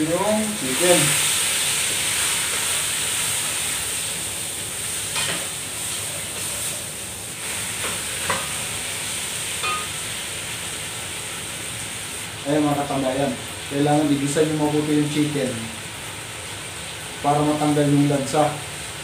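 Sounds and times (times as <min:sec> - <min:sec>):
chicken sizzling in a pot: 0:00.0 - 0:19.0.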